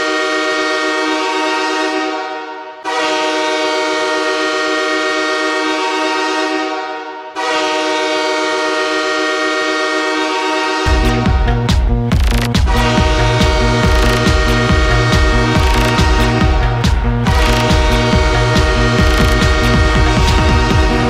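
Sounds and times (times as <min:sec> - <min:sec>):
hockey goal horn blasts: 0:00.0 - 0:11.6, 0:12.6 - 0:21.0.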